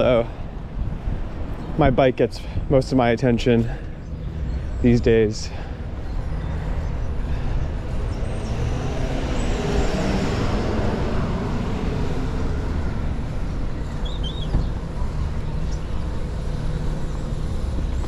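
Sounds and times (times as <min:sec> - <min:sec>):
motor vehicles passing: 0:00.0 - 0:18.0
steady low traffic rumble: 0:00.0 - 0:18.0.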